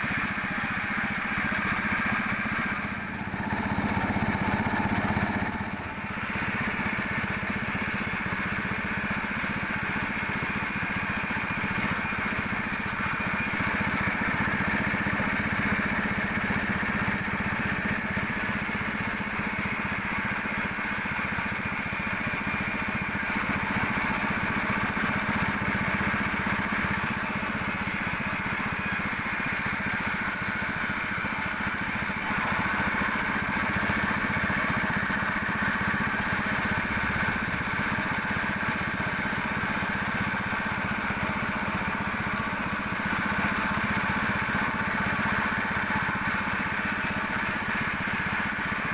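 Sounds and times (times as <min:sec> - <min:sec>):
sawmill machinery droning: 0:00.0 - 0:48.9.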